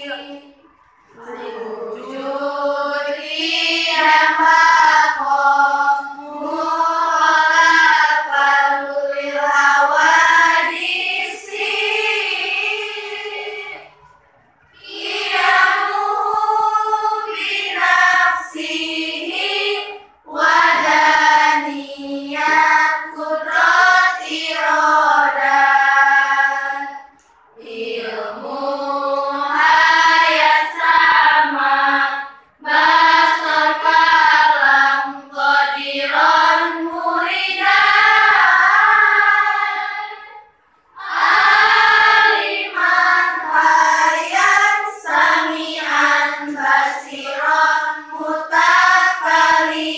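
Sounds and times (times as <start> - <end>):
girls chanting in unison: 0.0 - 14.1, 14.7 - 49.9.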